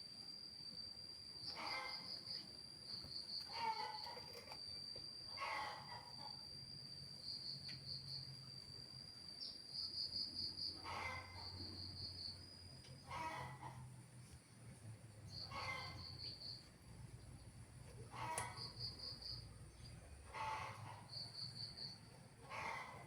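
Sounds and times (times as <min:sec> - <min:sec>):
high-pitched insect trill: 0:00.0 - 0:14.0, 0:15.1 - 0:23.0.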